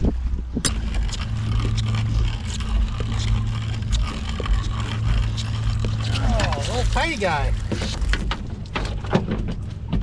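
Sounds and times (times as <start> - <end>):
steady low hum: 0.0 - 10.0
wet rope scraping over gunwale: 0.7 - 9.0.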